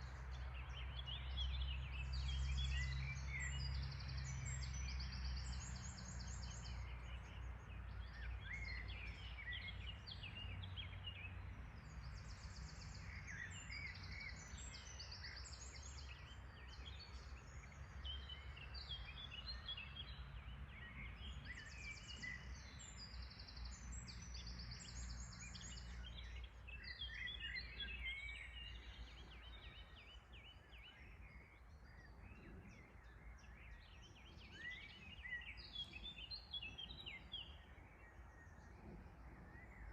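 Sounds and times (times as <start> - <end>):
songbirds singing and trilling: 0.0 - 39.9.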